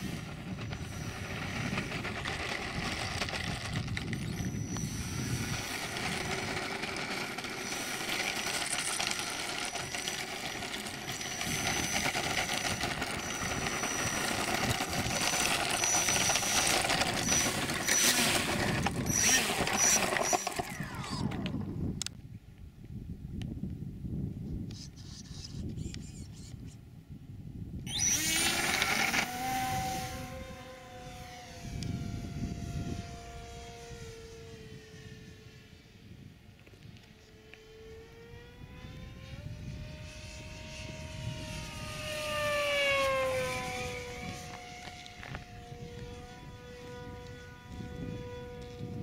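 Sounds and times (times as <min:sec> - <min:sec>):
electric motor and propeller whine: 0:00.0 - 0:22.5, 0:24.0 - 0:49.0.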